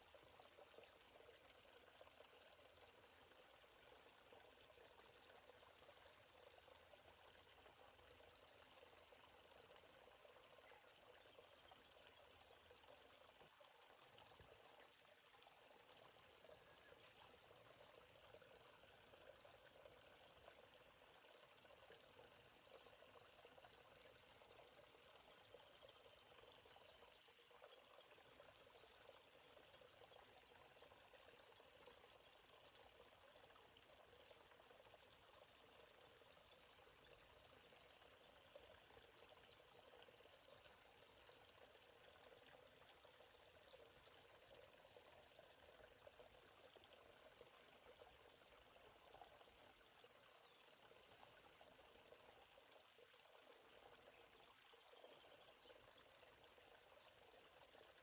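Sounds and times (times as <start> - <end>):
insects chorus: 0.0 - 58.0
stream flowing: 0.0 - 58.0.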